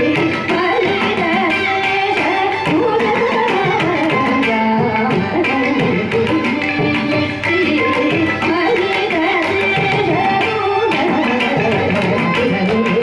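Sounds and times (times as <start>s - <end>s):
violin: 0.0s - 13.0s
woman singing: 0.0s - 13.0s.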